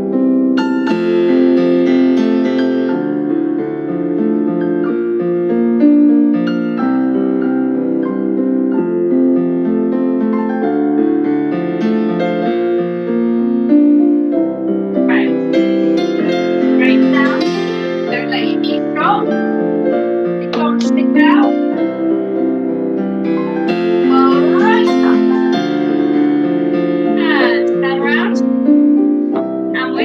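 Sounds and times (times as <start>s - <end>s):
solo piano music: 0.0s - 30.0s.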